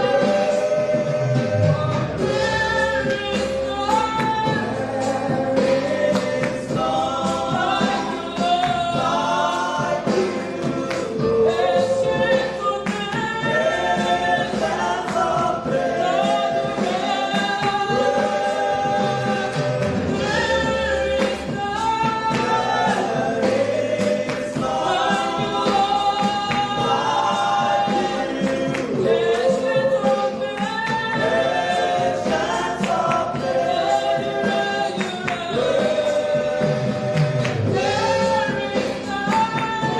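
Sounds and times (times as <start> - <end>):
choir singing gospel: 0.0 - 39.9
instrumental backing: 0.0 - 39.9.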